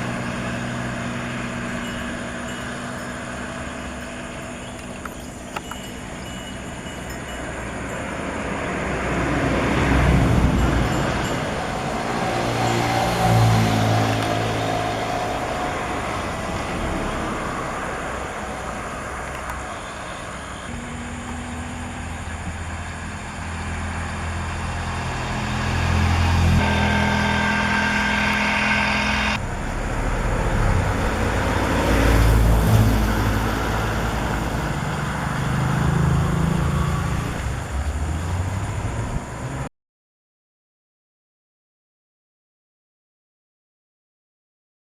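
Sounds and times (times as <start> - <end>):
steady traffic hum: 0.0 - 39.7
vehicles passing: 0.0 - 39.7.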